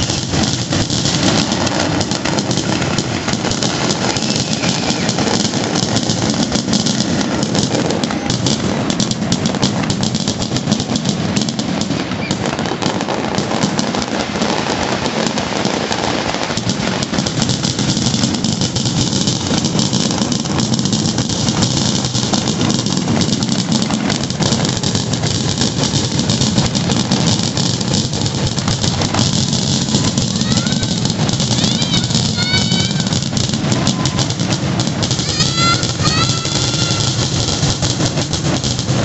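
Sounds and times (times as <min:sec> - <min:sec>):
fireworks barrage: 0:00.0 - 0:39.0.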